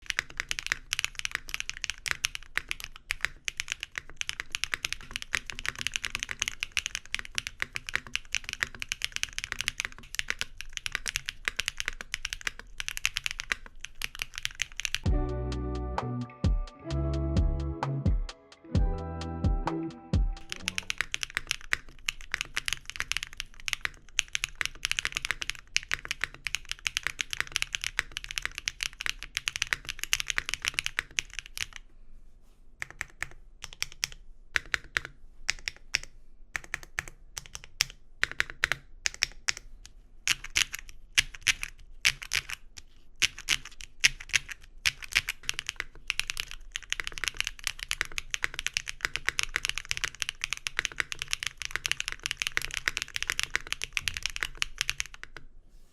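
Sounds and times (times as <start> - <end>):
mechanical keyboard typing: 0.0 - 15.1, 20.4 - 31.8, 32.8 - 39.7, 40.3 - 55.4.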